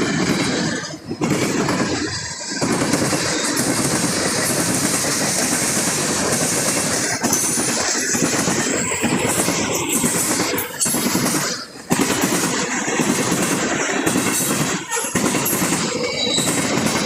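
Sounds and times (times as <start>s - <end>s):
freight train wheels rumbling on track: 0.0s - 17.0s.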